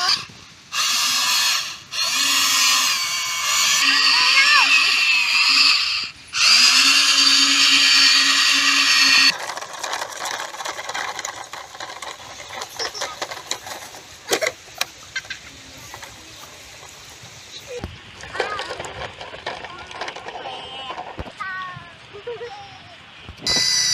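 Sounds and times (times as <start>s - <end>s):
toy excavator motors whining: 0.0s - 21.4s, 23.3s - 23.9s
outdoor rustling: 0.0s - 23.9s.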